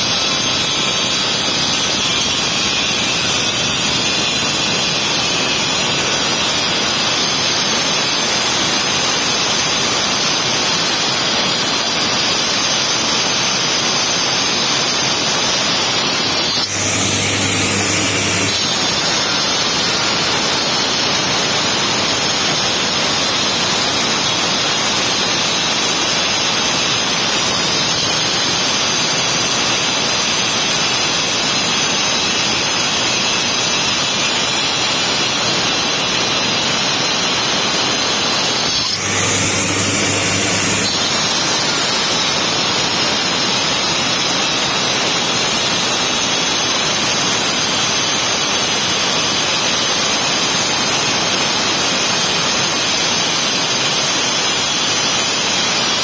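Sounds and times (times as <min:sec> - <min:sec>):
stone cutter grinding whine: 0:00.0 - 0:56.0.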